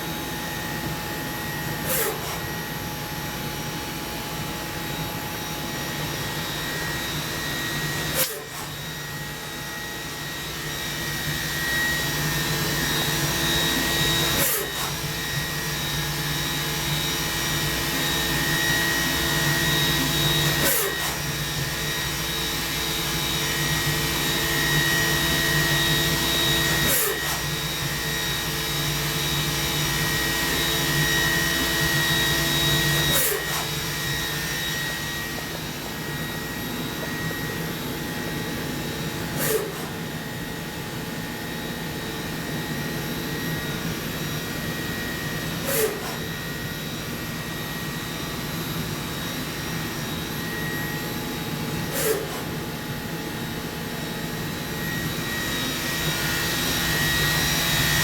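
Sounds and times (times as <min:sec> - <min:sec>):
machine whirring with high whine: 0:00.0 - 0:58.0.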